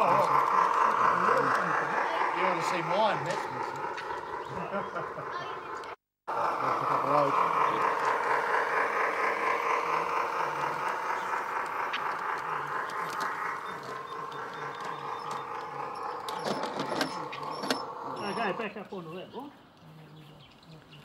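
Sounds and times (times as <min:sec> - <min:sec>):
model train motor whirring: 0:00.0 - 0:19.1
wheels rolling on rails: 0:00.0 - 0:19.8.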